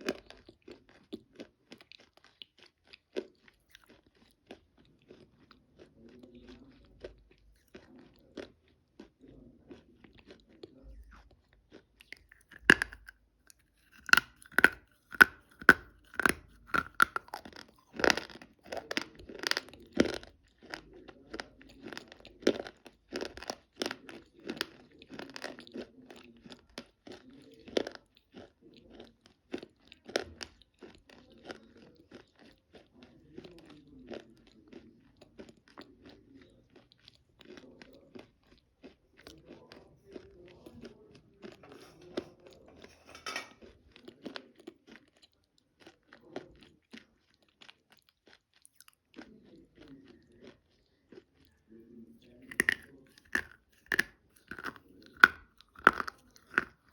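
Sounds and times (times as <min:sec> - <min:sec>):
chalk crunching and chewing: 0:00.0 - 0:56.9.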